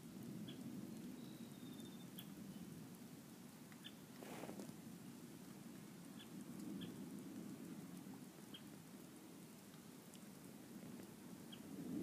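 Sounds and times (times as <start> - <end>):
faint steady rain: 0.0 - 12.0.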